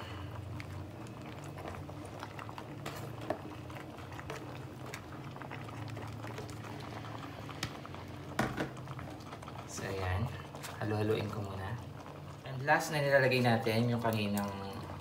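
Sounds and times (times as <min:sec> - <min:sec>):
sauce bubbling in a pan: 0:00.0 - 0:15.0.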